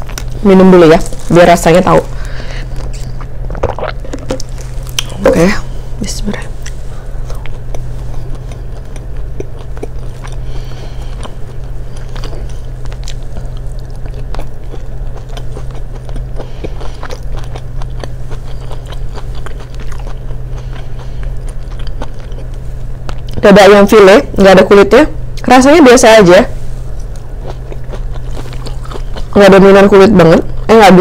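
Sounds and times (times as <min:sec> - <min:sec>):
close-up chewing food: 0:00.0 - 0:05.4, 0:06.3 - 0:23.4, 0:26.5 - 0:31.0
steady low hum: 0:00.0 - 0:31.0.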